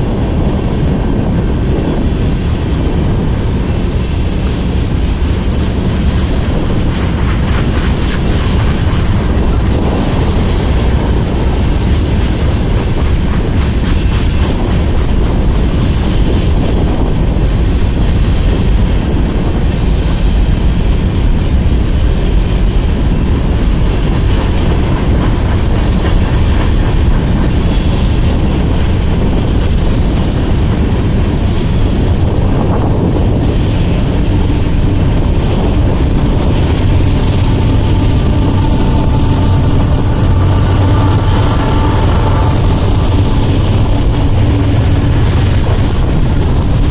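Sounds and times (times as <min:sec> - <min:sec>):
steel wheels rumbling on rail: 0:00.0 - 0:46.9.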